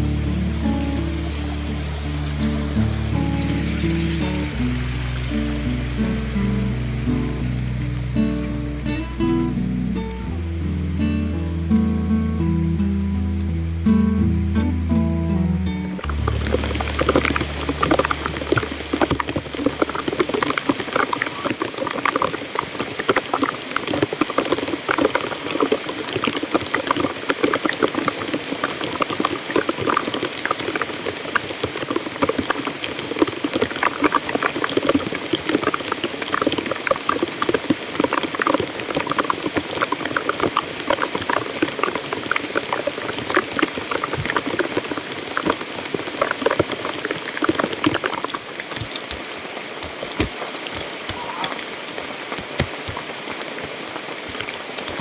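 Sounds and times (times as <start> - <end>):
stream rushing and splashing: 0.0 - 55.0.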